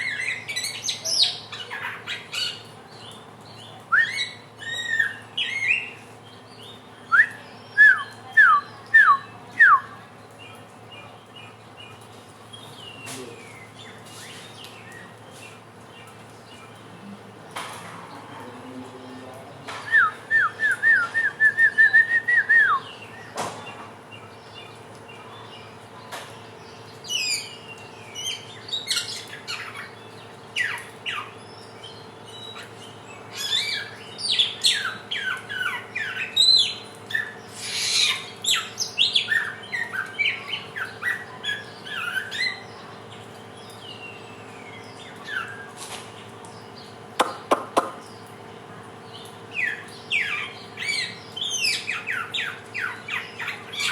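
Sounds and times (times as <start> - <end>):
bird chirping and trilling: 0.0 - 16.8, 26.4 - 48.4, 49.0 - 53.9.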